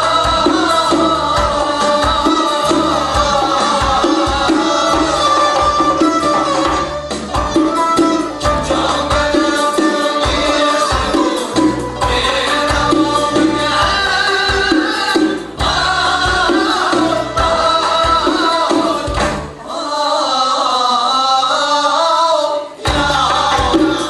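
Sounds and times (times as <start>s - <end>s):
frame drums beating: 0.0s - 19.6s, 22.9s - 24.0s
choir singing: 0.0s - 24.0s.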